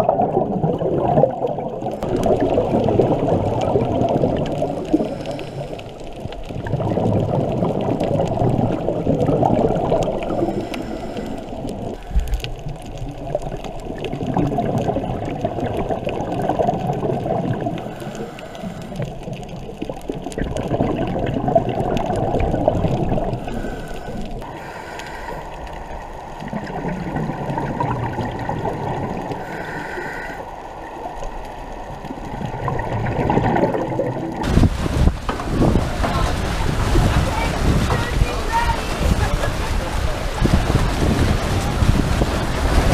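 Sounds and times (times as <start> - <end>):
underwater bubbling and gurgling: 0.0 - 42.9.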